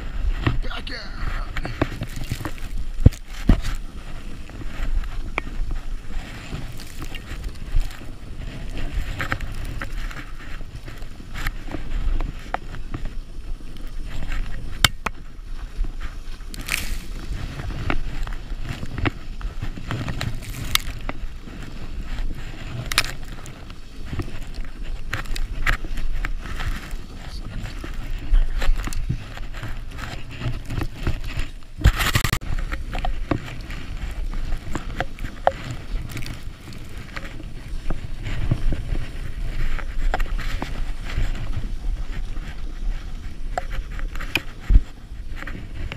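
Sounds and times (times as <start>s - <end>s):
sled scraping over snow: 0.0s - 45.9s.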